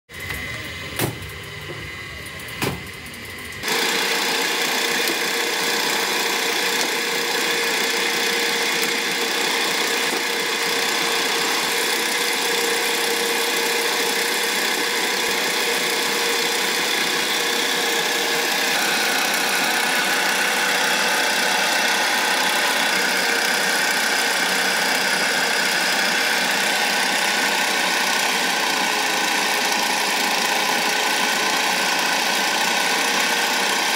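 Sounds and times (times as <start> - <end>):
potter's wheel motor whirring: 0.1 - 33.9.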